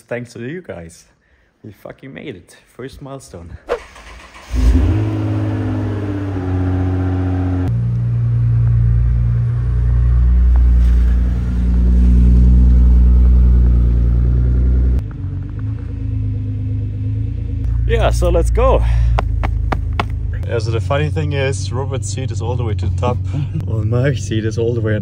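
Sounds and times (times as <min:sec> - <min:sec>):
car engine starting and idling: 0:03.7 - 0:25.0.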